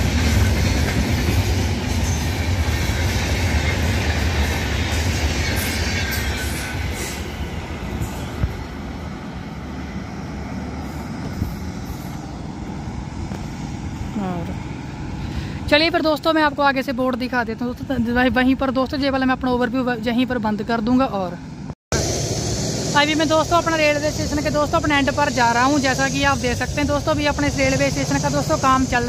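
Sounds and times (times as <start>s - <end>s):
train wheels rumbling on rails: 0.0s - 19.8s, 21.5s - 29.0s.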